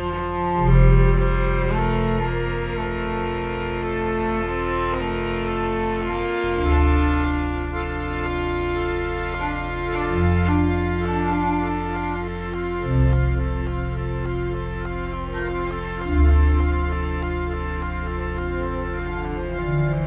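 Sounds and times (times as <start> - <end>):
accordion playing chords and melody: 0.0 - 20.0
low sustained bass notes: 0.0 - 20.0.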